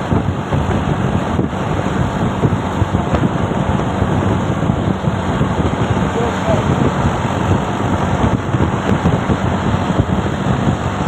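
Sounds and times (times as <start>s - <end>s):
vehicle rumble: 0.0s - 11.0s
wind buffeting microphone: 0.0s - 11.0s.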